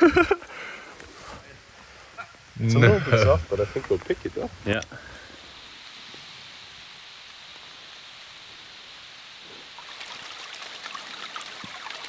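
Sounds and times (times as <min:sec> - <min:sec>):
water hissing and pattering: 0:00.0 - 0:12.0.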